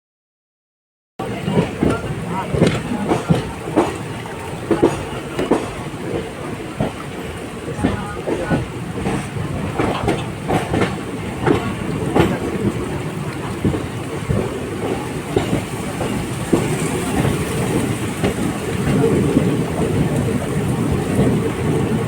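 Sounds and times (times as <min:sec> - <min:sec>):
train coach rumbling on track: 0:01.2 - 0:22.0
wheels clattering over rail joints: 0:01.3 - 0:22.0.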